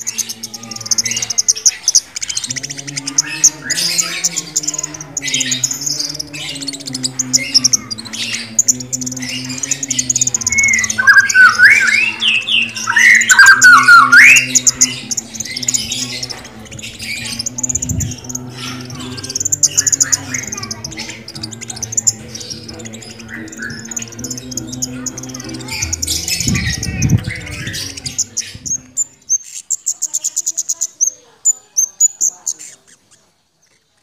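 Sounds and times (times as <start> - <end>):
thrush singing: 0.0 - 33.0.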